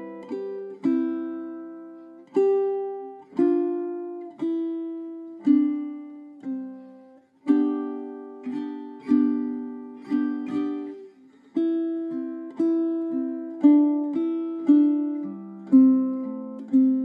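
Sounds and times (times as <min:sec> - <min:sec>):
ukulele fingerpicked melody: 0:00.0 - 0:17.0.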